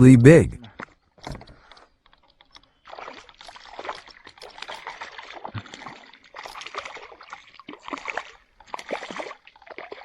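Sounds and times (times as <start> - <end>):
water splashing around boat: 1.3 - 10.0.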